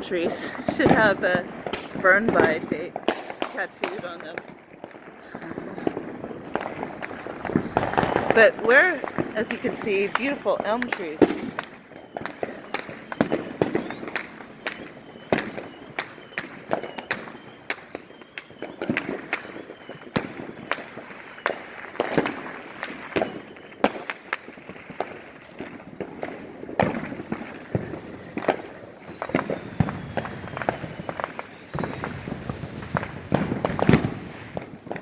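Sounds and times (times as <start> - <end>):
falling firework whistle: 0.0 - 35.0
firecrackers banging and popping: 0.0 - 35.0.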